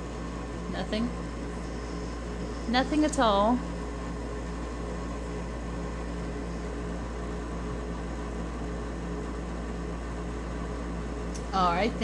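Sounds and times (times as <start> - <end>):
appliance humming with hiss: 0.0 - 12.0.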